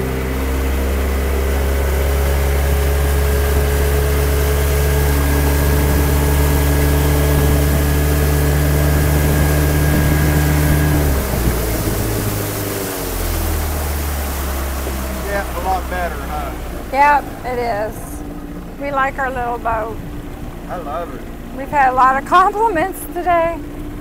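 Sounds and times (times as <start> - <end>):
outboard motor running: 0.0 - 24.0
rushing wind and water: 0.0 - 24.0.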